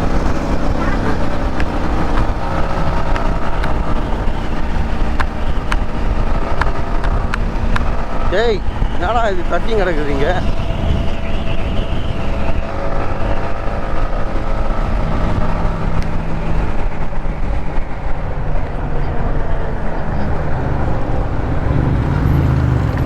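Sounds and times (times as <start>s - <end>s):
motorcycle engine running: 0.0s - 23.0s
wind noise on microphone: 0.0s - 23.0s.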